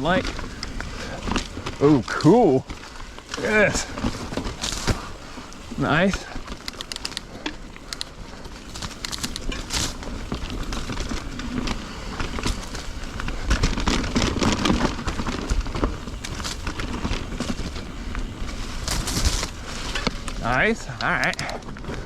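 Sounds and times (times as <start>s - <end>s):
bike clicks and rattles: 0.0s - 22.0s
bike tyres crunching on trail: 0.0s - 22.0s.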